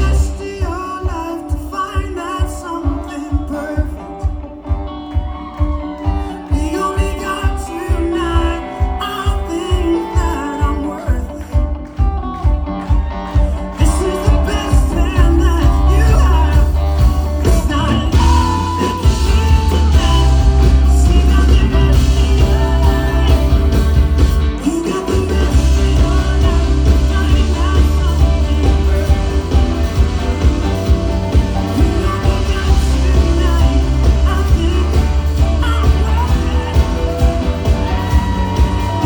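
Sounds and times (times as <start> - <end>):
person singing: 0.0 - 39.0
rock band playing live: 0.0 - 39.0.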